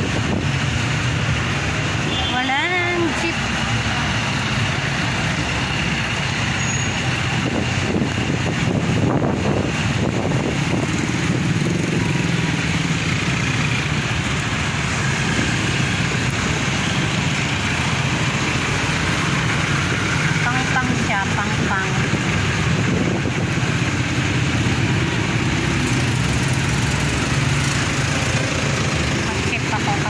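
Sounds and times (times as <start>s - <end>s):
scooters and cars passing: 0.0s - 30.0s
tyre noise on wet asphalt: 0.0s - 30.0s.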